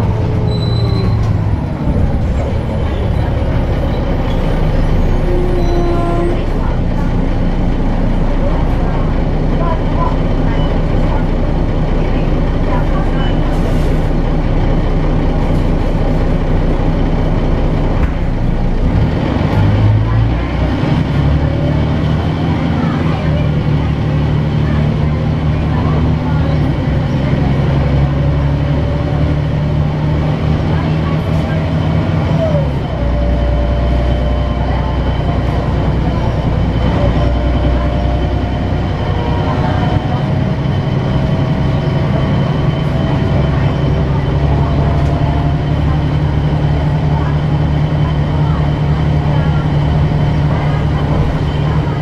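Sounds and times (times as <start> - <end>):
bus engine drone from inside: 0.0 - 52.0.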